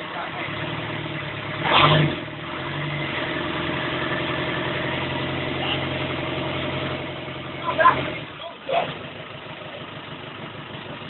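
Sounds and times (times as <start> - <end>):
diesel engine idling: 0.0 - 1.6, 2.2 - 11.0.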